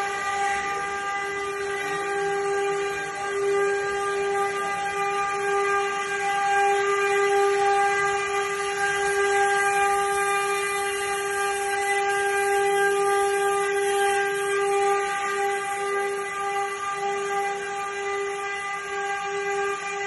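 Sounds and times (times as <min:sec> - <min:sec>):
router spindle high whine: 0:00.0 - 0:20.0.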